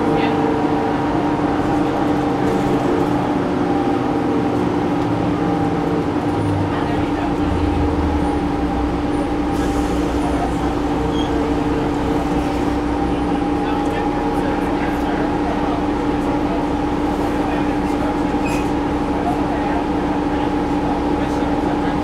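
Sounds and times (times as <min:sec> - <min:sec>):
bus engine hum with whine: 0:00.0 - 0:22.0.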